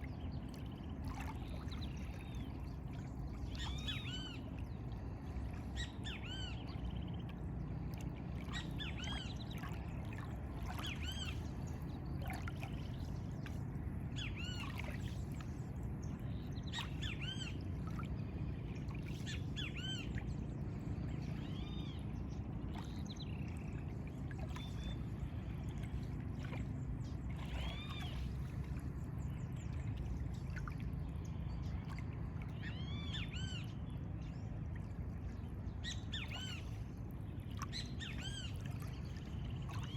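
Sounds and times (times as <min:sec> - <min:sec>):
low outdoor rumble: 0:00.0 - 0:39.9.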